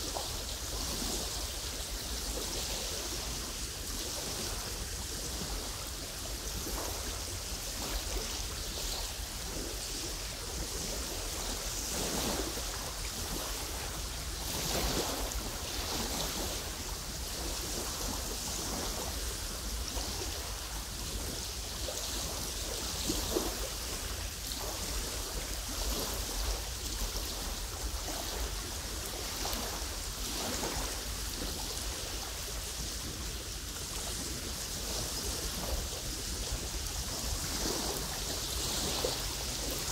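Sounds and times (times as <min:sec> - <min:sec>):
waves lapping at shore: 0:00.0 - 0:39.9.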